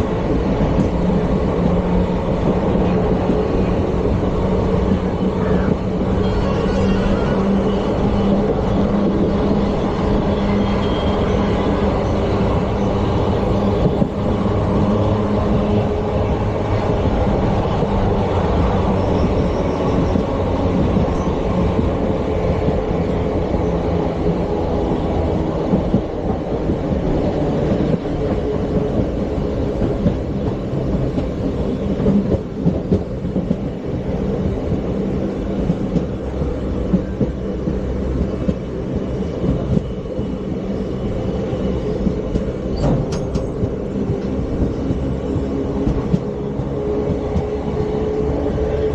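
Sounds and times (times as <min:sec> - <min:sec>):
train coaches rumbling: 0:00.0 - 0:48.9.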